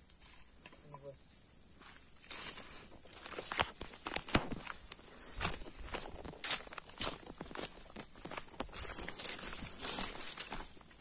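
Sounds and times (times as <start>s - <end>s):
footsteps rustling through vegetation: 1.7s - 11.0s.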